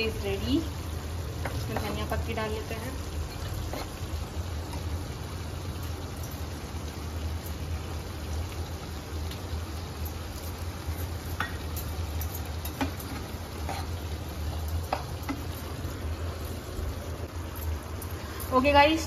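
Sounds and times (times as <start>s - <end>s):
curry simmering and sizzling: 0.0s - 19.0s.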